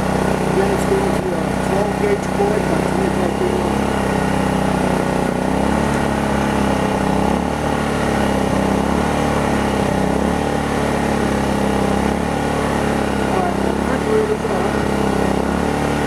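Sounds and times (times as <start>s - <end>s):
generator engine idling: 0.0s - 16.0s.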